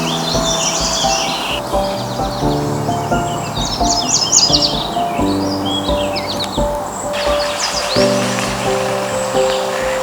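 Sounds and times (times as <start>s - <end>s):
background music with low beat: 0.0s - 10.0s
songbirds chirping: 0.0s - 10.0s.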